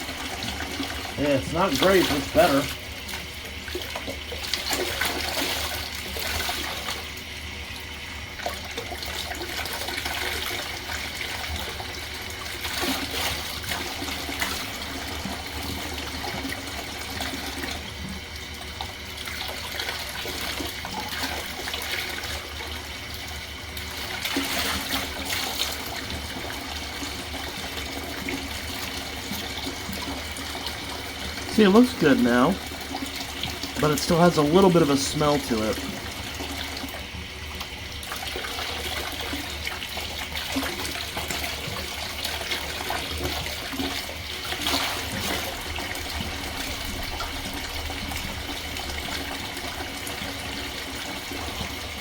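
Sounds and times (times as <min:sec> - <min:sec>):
tap water running and splashing: 0:00.0 - 0:52.0.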